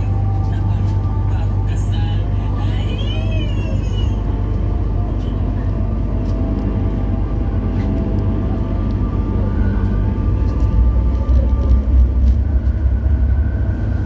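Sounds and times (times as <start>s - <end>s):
train motors whining: 0.0s - 14.0s
train rumble: 0.0s - 14.0s.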